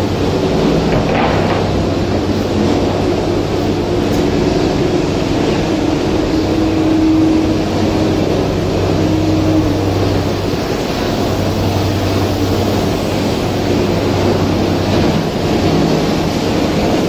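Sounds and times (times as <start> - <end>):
factory machinery droning: 0.0 - 17.0.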